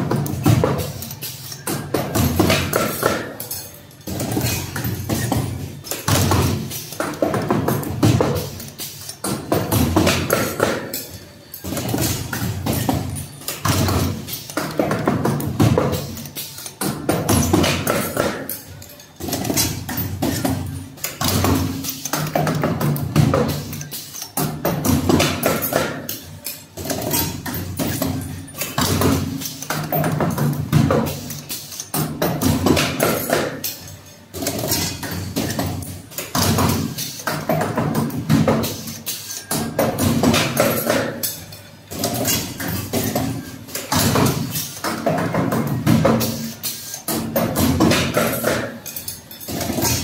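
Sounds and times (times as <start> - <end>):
background music with percussive beat: 0.0 - 50.0.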